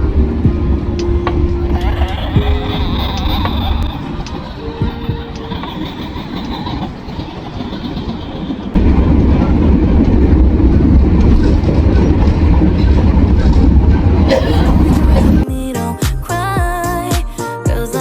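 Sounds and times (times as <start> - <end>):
train rumbling on rails: 0.0 - 15.5.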